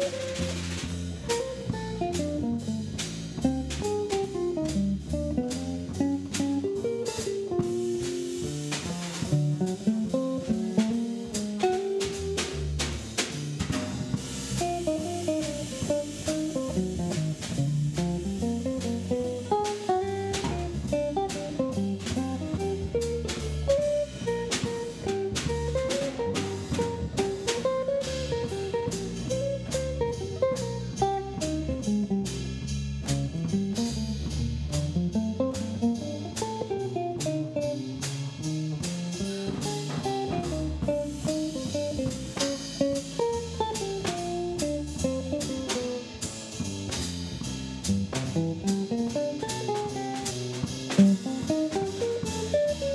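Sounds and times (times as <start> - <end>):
bass line: 0.0 - 52.9
drum kit cymbals: 0.0 - 52.9.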